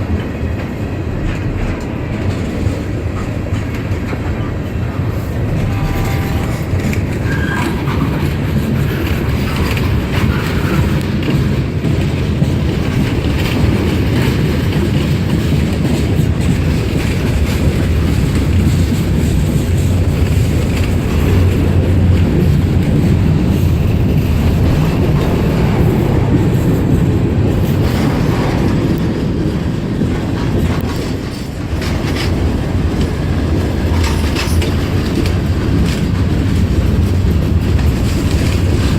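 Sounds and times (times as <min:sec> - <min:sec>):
train rumbling past: 0:00.0 - 0:38.9
train wheels clacking: 0:00.0 - 0:38.9.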